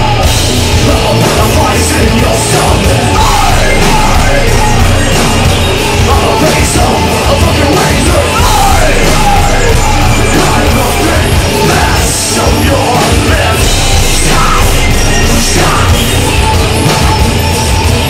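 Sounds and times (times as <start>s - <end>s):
live rock band playing: 0.0s - 18.0s
shouted vocals: 1.0s - 16.3s.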